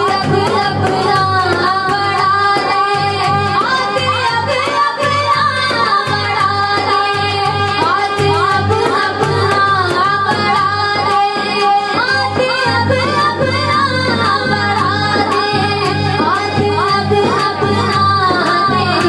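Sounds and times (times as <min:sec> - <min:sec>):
woman singing: 0:00.0 - 0:19.0.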